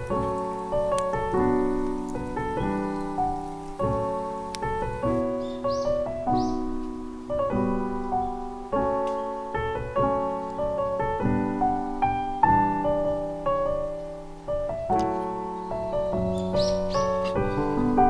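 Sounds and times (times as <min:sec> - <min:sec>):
gentle piano chords: 0:00.0 - 0:18.0.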